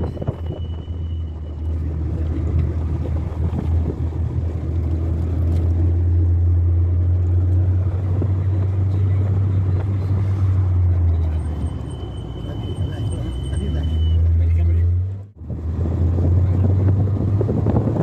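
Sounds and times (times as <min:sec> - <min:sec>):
motor vehicle low rumble: 0:00.0 - 0:18.0.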